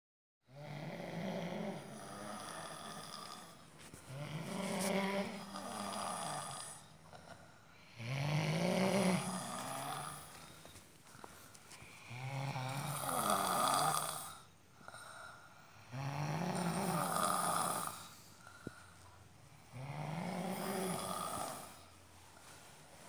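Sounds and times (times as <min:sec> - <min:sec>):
person snoring: 0:00.5 - 0:18.9, 0:19.5 - 0:21.9.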